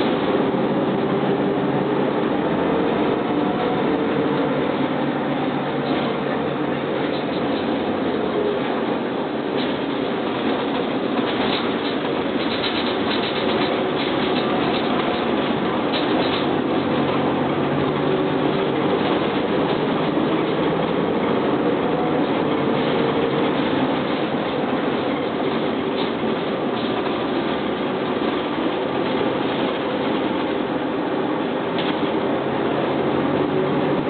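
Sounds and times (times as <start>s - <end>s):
bus diesel engine running: 0.0s - 34.0s
road and body noise drone: 0.0s - 34.0s.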